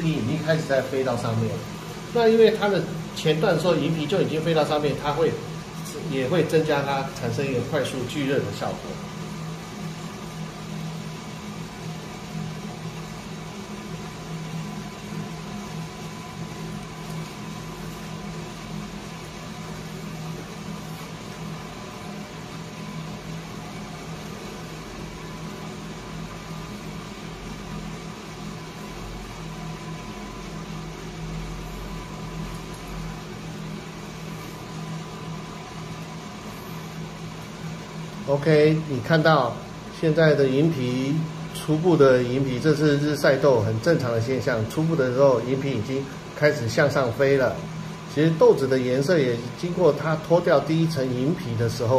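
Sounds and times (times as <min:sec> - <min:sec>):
coffee roaster motor and fan hum: 0:00.0 - 0:51.9.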